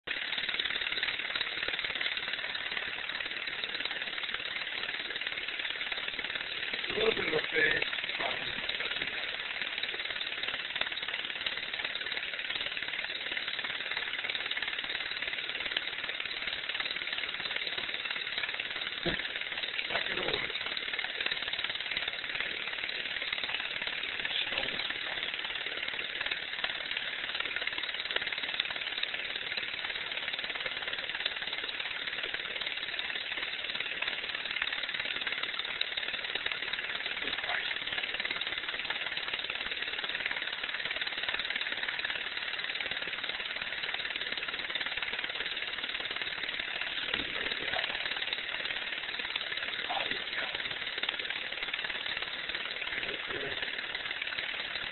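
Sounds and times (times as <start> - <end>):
film projector whirring: 0.0 - 54.9
light mechanical rattle: 0.1 - 54.9.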